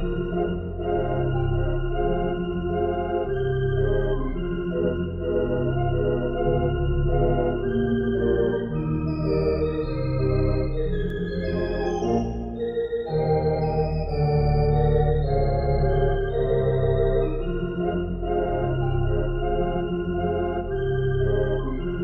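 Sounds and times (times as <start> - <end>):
pipe organ playing song: 0.0 - 22.0.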